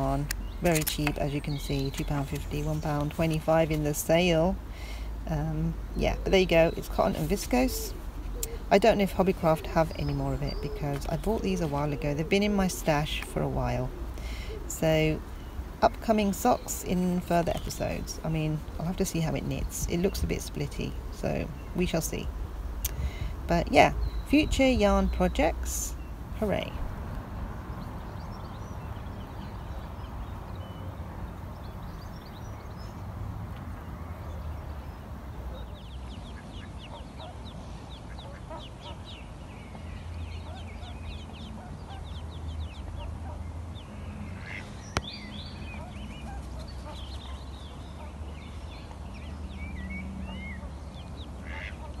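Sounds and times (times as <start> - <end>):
ducklings peeping: 6.0 - 26.8, 27.6 - 52.0.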